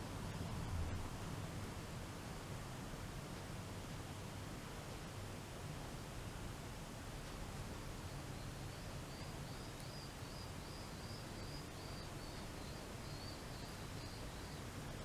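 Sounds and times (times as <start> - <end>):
background hiss and hum: 0.0 - 15.0.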